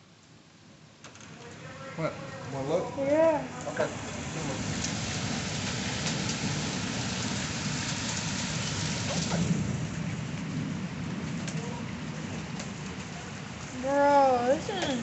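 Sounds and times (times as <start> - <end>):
rain and hail downpour: 0.0 - 15.0.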